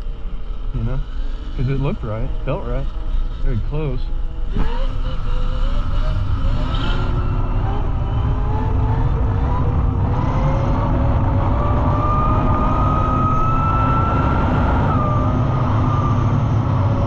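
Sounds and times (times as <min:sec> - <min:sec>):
electric motor whining: 0:00.0 - 0:17.0
wind and road noise: 0:00.0 - 0:17.0.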